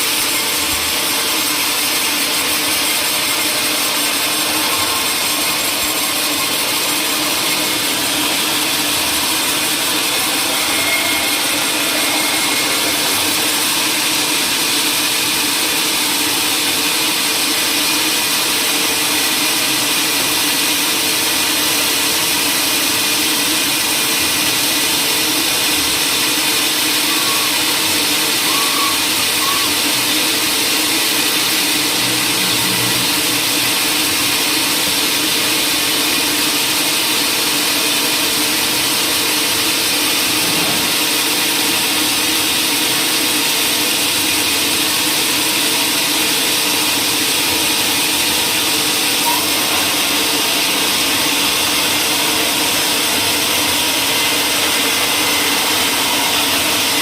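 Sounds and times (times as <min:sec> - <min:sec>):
woodworking machinery drone: 0:00.0 - 0:57.0.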